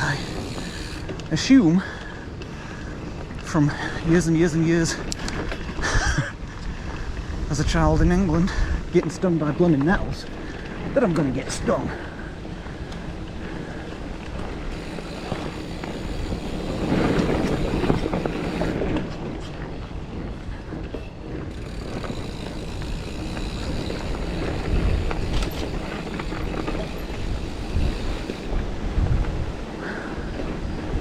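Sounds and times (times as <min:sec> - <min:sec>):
bike rattling: 0:00.0 - 0:31.0
bike tyres rolling on dirt: 0:00.0 - 0:31.0.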